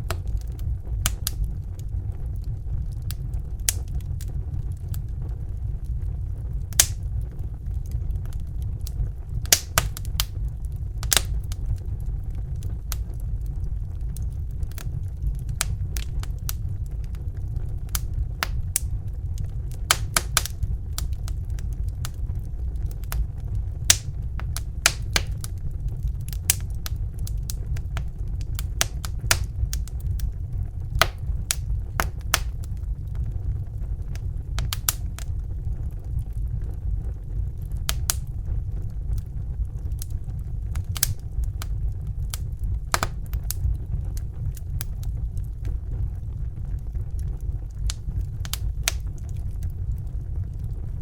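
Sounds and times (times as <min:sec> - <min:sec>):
fire crackling and popping: 0:00.0 - 0:51.0
low rumble: 0:00.0 - 0:51.0.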